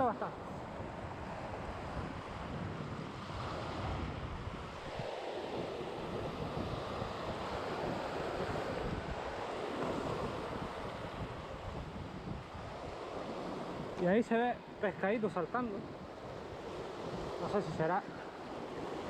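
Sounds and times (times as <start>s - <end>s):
waves on rocky shore: 0.0s - 19.0s
wind buffeting microphone: 0.0s - 19.0s.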